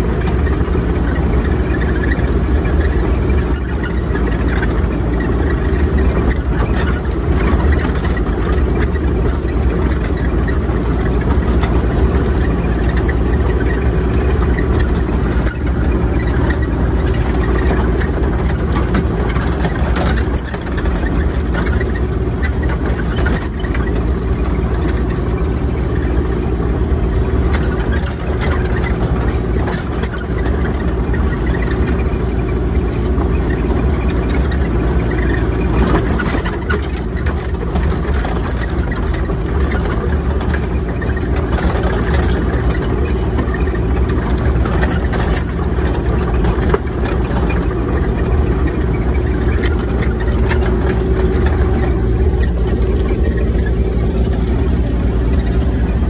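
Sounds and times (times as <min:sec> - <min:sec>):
diesel engine running: 0:00.0 - 0:56.0
light clicks and rattles: 0:02.8 - 0:26.2, 0:27.0 - 0:56.0.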